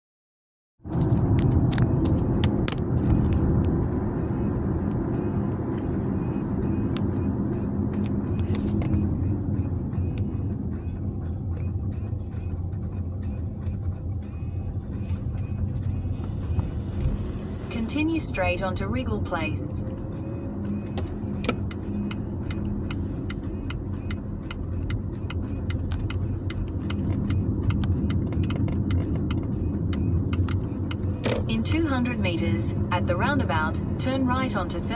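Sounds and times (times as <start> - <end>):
moving car rumble: 0.8 - 34.9
low fan: 0.9 - 34.9.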